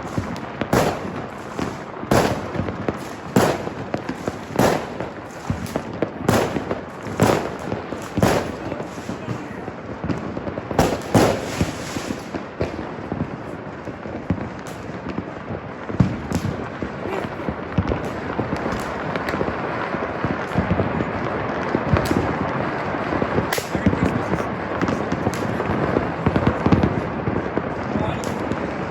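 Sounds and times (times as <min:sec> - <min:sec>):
firecrackers crackling: 0:00.0 - 0:28.9
fireworks loud bangs: 0:00.0 - 0:28.9.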